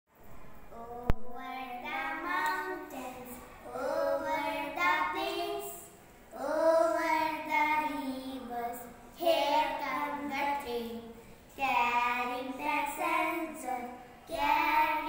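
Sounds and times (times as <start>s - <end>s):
girls chanting a rhyme: 1.0s - 15.0s.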